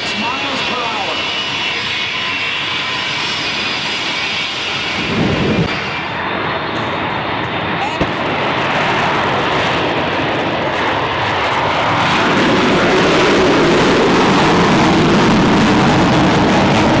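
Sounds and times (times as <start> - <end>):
truck diesel engine roaring: 0.0 - 17.0.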